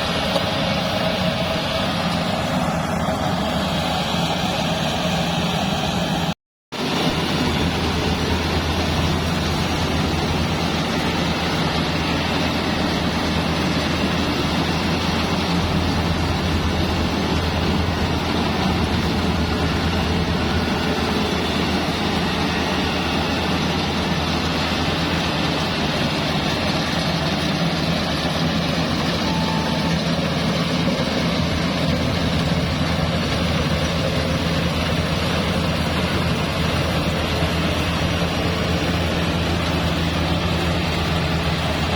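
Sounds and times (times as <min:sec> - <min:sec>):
dense rushing noise: 0:00.0 - 0:41.9
thresher engine drone: 0:00.0 - 0:41.9.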